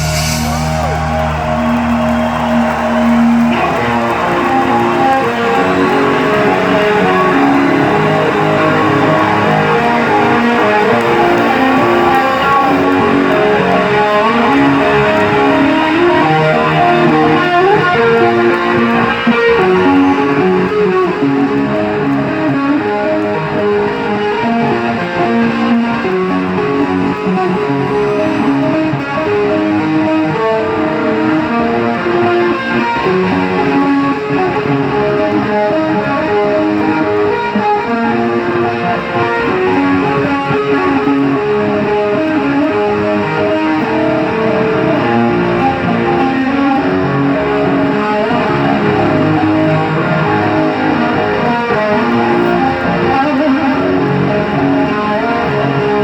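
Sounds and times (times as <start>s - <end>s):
electric guitar: 0.0s - 56.0s
heavy metal band playing: 0.0s - 56.0s.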